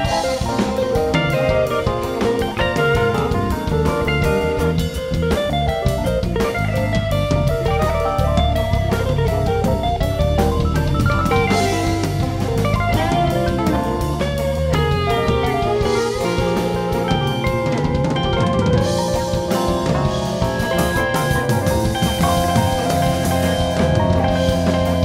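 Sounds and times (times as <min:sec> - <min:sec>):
drum kit beat: 0:00.0 - 0:25.0
electric guitars playing lead lines: 0:00.0 - 0:25.0.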